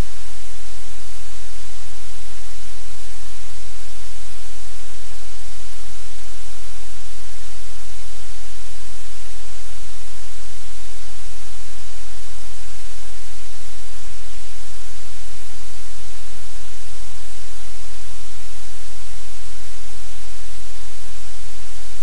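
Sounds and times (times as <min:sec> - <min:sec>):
static hiss: 0:00.0 - 0:22.0.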